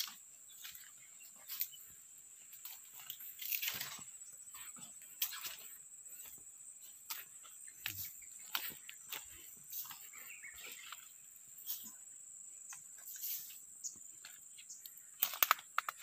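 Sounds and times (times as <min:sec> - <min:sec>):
flip-flop footsteps crunching twigs: 0:00.0 - 0:12.0, 0:12.7 - 0:16.0
insects buzzing: 0:00.0 - 0:16.0.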